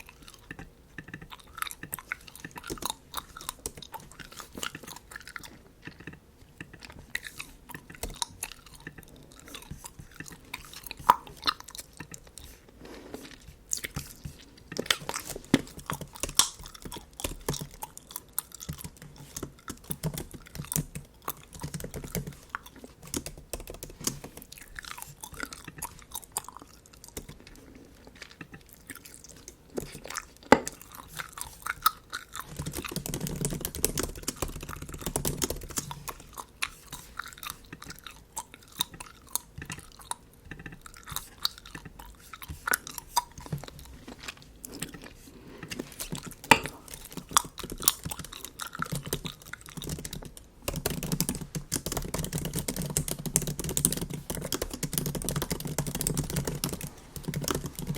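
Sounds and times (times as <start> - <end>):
bubble gum chewing smacks: 0.0 - 57.9.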